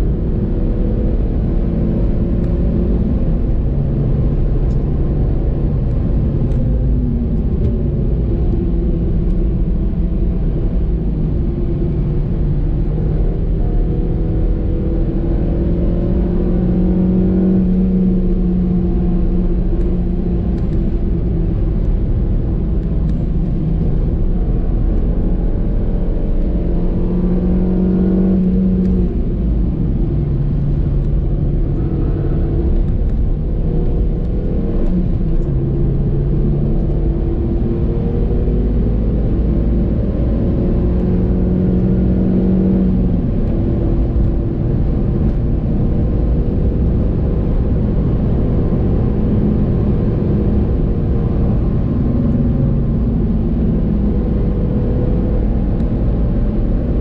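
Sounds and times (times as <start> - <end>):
car engine accelerating: 0.0 - 57.0
low road rumble: 0.0 - 57.0.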